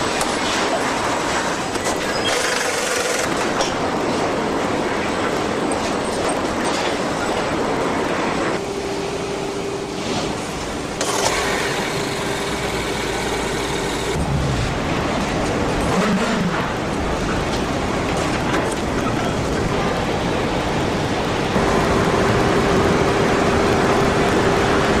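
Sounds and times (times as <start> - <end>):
industrial hum and clatter: 0.0 - 25.0.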